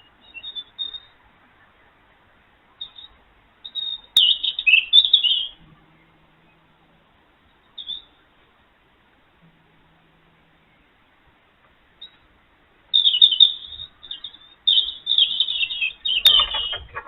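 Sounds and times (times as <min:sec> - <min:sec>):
small bird chirping: 0:00.0 - 0:01.7, 0:02.7 - 0:08.6, 0:10.4 - 0:17.0.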